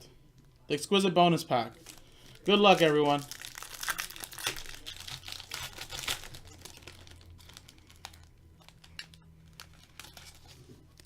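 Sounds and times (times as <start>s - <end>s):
wrapper crinkling and tearing: 1.7s - 11.0s.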